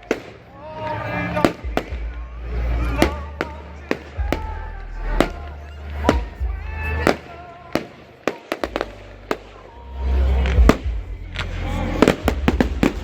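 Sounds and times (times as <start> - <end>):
fireworks bursting with bangs: 0.0 - 13.0
fireworks crackling: 0.0 - 13.0
music over loudspeakers: 0.0 - 13.0.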